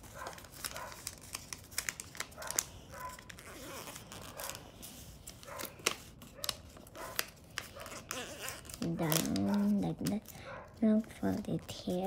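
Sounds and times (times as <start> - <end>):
paper being folded and creased: 0.0 - 12.0.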